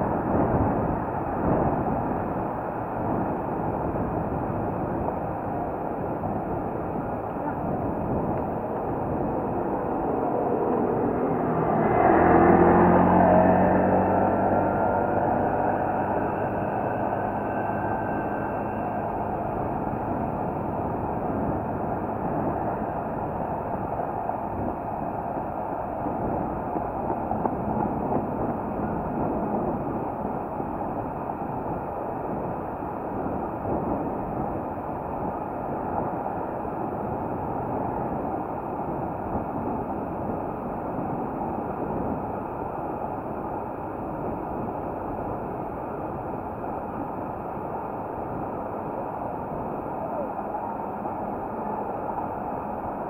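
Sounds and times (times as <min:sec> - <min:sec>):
bicycle tyre rumble on asphalt: 0:00.0 - 0:53.0
wind over microphone: 0:00.0 - 0:53.0.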